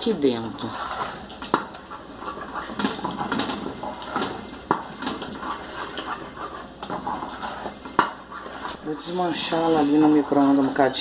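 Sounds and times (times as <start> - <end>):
wooden spoon scraping metal pot: 0.0 - 11.0.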